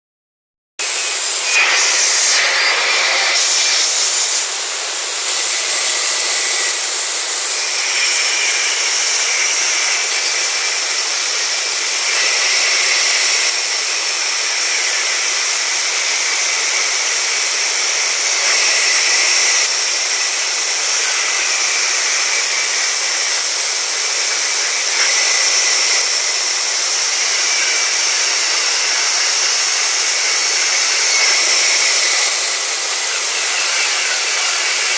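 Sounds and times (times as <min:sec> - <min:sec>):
sawmill saw cutting timber: 0:00.8 - 0:34.9.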